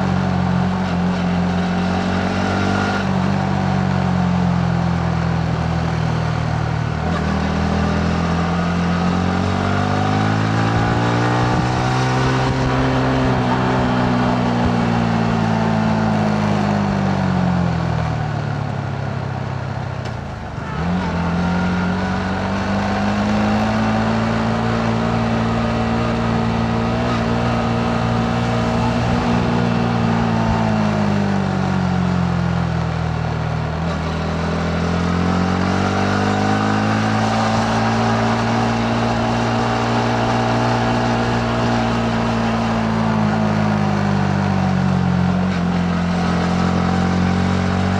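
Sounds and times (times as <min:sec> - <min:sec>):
motorcycle engine: 0:00.0 - 0:47.9
wind and road noise: 0:00.0 - 0:47.9.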